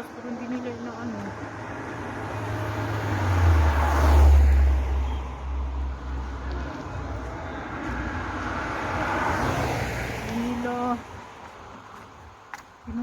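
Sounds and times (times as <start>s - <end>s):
vehicle engine rumble passing: 0.0s - 12.4s.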